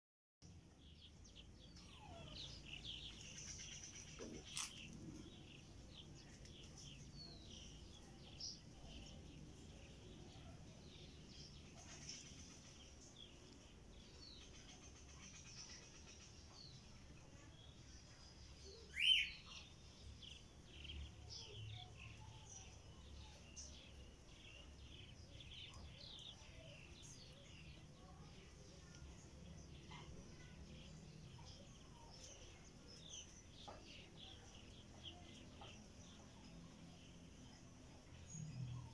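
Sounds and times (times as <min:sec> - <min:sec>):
birds chirping: 0:00.4 - 0:38.9.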